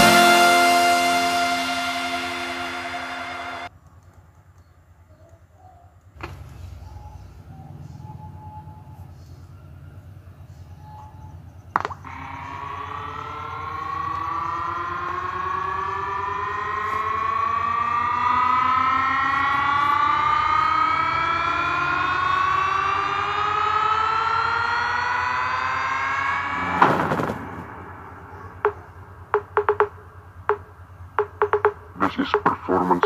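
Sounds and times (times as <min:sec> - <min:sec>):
rising siren-like synth tone: 0:00.0 - 0:03.7, 0:07.0 - 0:31.8.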